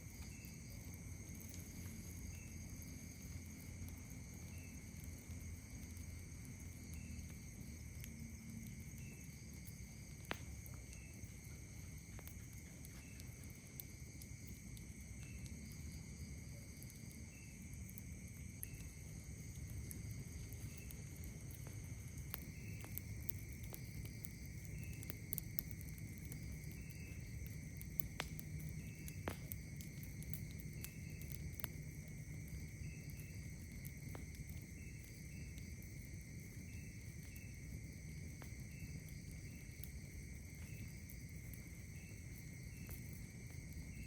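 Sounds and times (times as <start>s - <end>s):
campfire crackling and popping: 0.0s - 44.0s
night insects trilling: 0.0s - 44.0s.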